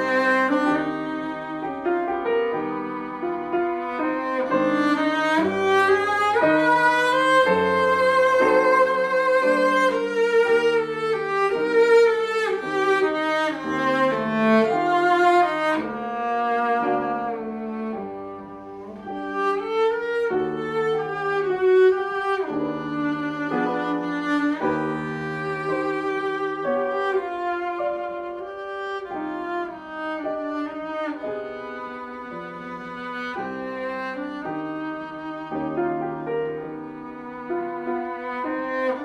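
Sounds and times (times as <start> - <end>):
cello melody: 0.0 - 39.0
piano chords: 0.0 - 39.0.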